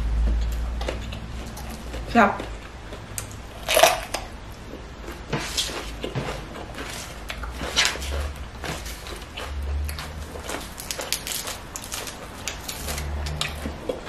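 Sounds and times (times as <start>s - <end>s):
chewing crisp pepper: 0.2s - 14.0s.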